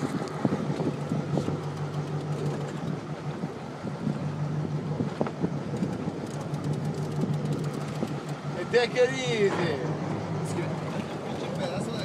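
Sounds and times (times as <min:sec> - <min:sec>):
boat engine humming: 0:00.0 - 0:12.0
wind and water rushing: 0:00.0 - 0:12.0.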